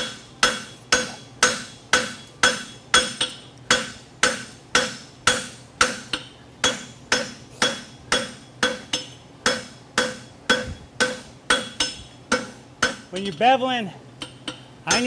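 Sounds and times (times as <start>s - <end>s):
hammer striking steel on anvil: 0.0s - 13.5s, 14.2s - 15.0s.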